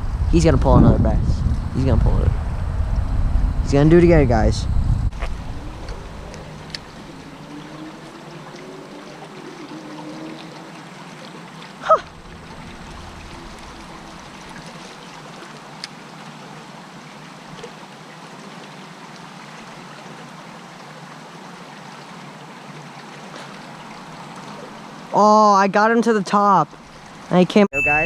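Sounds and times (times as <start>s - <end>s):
flowing water rushing: 5.1s - 27.7s.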